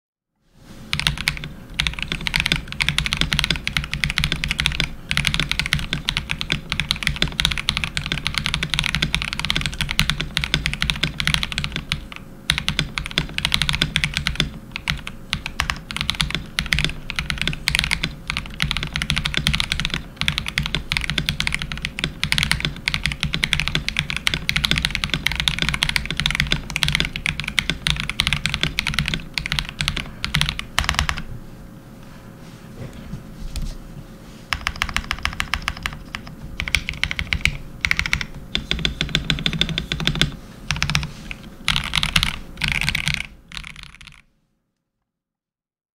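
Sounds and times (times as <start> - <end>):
fast mechanical keyboard typing: 0.9 - 31.3, 34.5 - 44.2.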